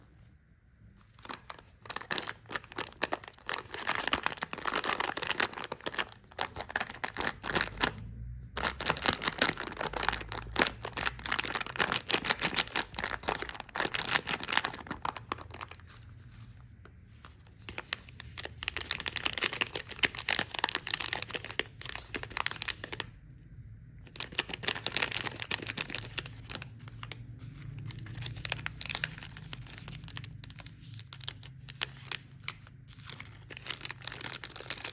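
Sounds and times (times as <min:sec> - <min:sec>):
candy wrappers crinkling and tearing: 0:01.1 - 0:08.0, 0:08.6 - 0:23.1, 0:24.1 - 0:34.9.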